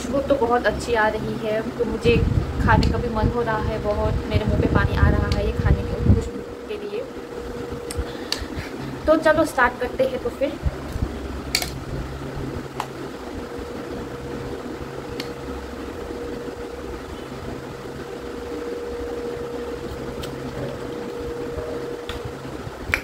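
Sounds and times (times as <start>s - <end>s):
low mechanical hum: 0.0s - 23.0s
thin steady whine: 0.0s - 23.0s.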